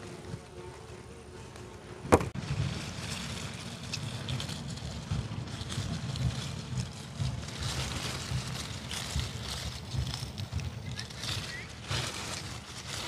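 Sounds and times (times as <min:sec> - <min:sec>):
leaves rustling: 0:00.0 - 0:13.0
wind buffeting microphone: 0:02.0 - 0:13.0.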